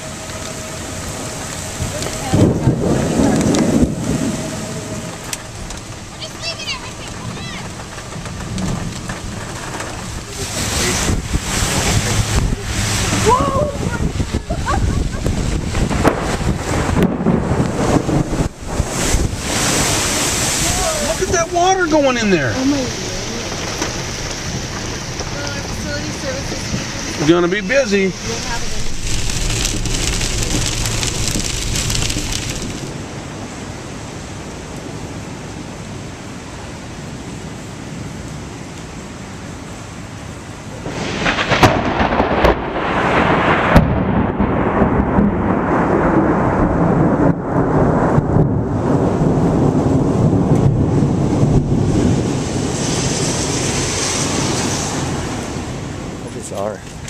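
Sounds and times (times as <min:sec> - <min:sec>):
low thunder rumble: 0:00.0 - 0:35.8, 0:40.6 - 0:57.0
heavy rain patter: 0:00.0 - 0:57.0.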